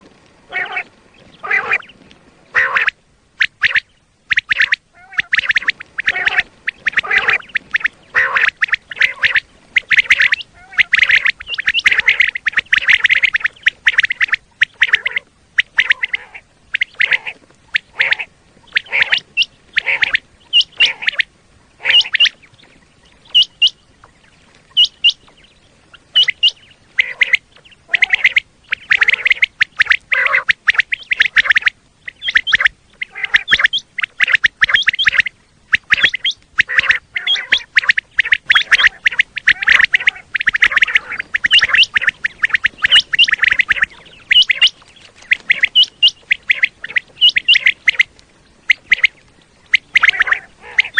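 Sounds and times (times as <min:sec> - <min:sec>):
quail calling: 0:00.5 - 0:50.9.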